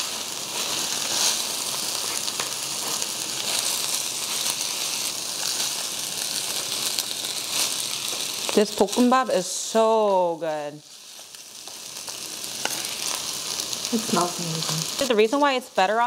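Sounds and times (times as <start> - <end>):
fried rice sizzling on grill: 0.0 - 16.0.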